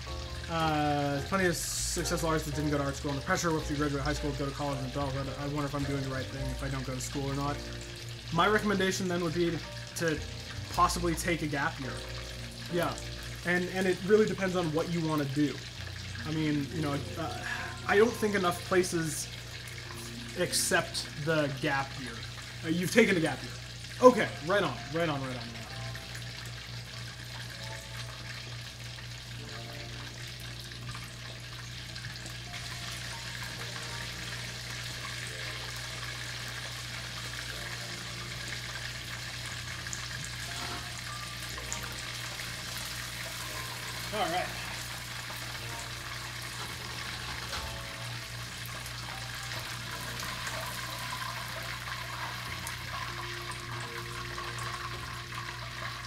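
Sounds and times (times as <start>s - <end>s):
oil sizzling while deep-frying: 0.0s - 56.0s.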